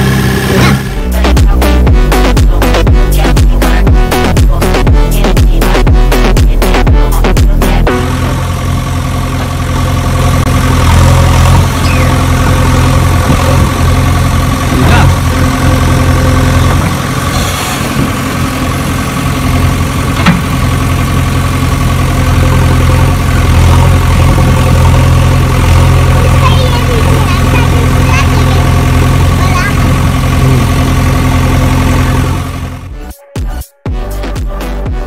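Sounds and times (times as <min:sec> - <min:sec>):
heavy engine idling: 0:00.0 - 0:33.0.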